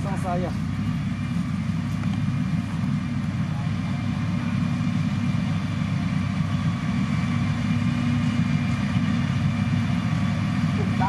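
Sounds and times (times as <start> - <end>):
construction machine engine rumbling: 0.0 - 11.0.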